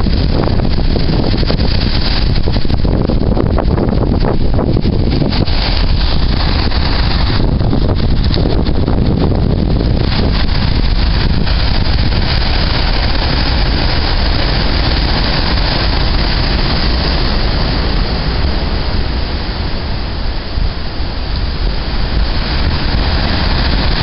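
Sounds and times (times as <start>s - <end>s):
heavy surf: 0.0s - 24.0s
wind blowing across microphone: 0.0s - 24.0s.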